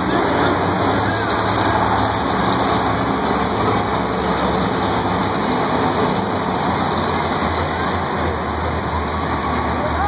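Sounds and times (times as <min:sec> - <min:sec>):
arena noise: 0:00.0 - 0:10.0
monster truck engine running: 0:00.0 - 0:10.0.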